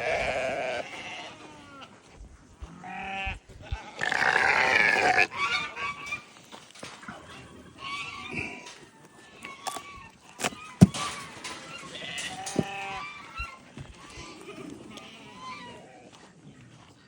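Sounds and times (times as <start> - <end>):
goats bleating: 0.0 - 2.0, 2.6 - 6.3, 7.6 - 16.3.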